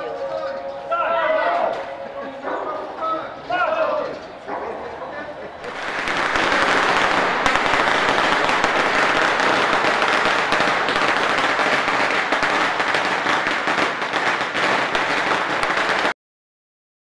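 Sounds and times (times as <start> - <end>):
firecrackers crackling: 0.0 - 16.2.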